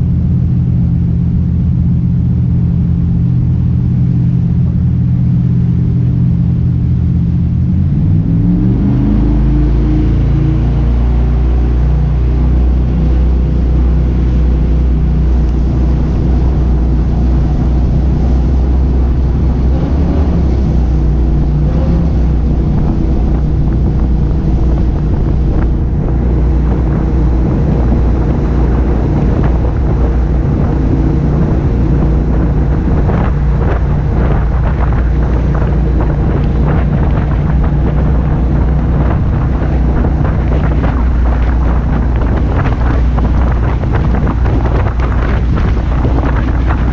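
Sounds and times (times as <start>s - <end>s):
boat engines droning: 0.0s - 46.9s
wind buffeting microphone: 0.0s - 46.9s.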